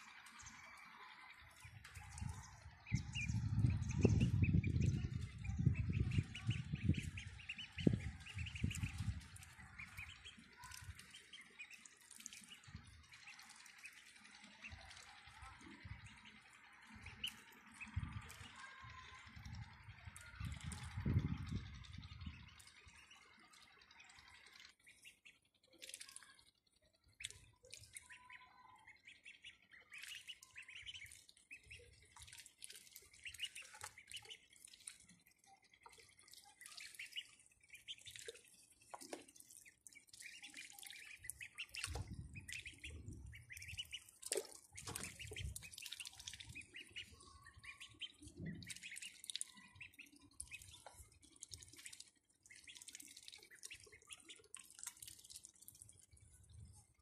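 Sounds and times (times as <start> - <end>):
ducklings splashing in water: 0.0 - 57.0
ducklings peeping: 0.1 - 56.0.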